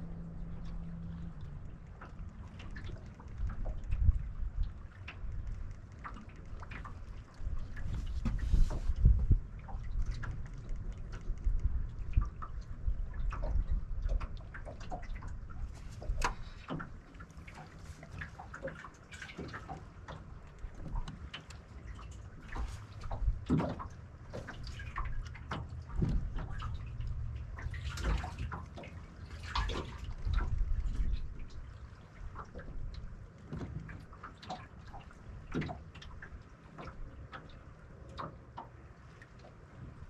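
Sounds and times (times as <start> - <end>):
low steady rumble: 0.0 - 40.0
waves slapping a metal hull: 0.0 - 40.0.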